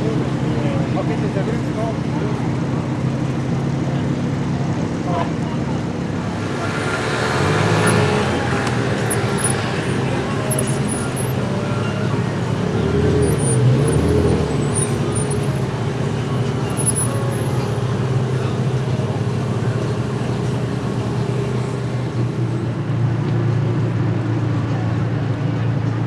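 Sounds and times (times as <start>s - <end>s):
car engine running at low revs: 0.0s - 26.0s
street traffic noise: 0.0s - 26.0s.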